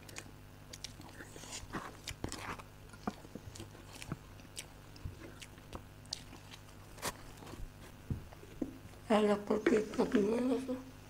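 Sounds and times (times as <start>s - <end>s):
people chewing cake: 0.0s - 9.0s.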